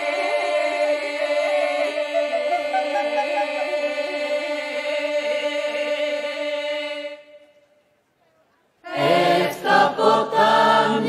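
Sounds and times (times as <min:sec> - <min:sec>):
voices singing folk polyphony: 0:00.0 - 0:07.8, 0:08.8 - 0:11.0.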